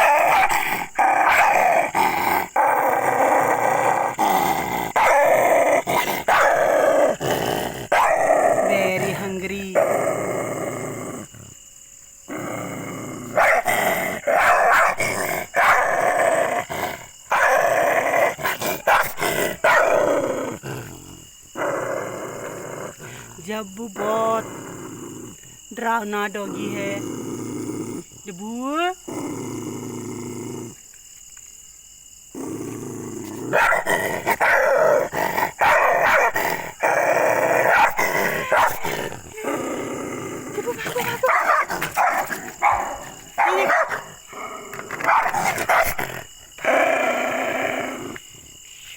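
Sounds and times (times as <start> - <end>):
dog barking and growling: 0.0 - 11.6, 12.2 - 30.8, 32.3 - 48.9.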